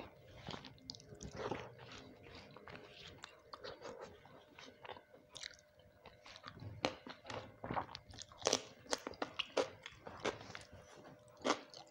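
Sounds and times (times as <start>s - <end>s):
person chewing and crunching food: 0.0s - 11.9s.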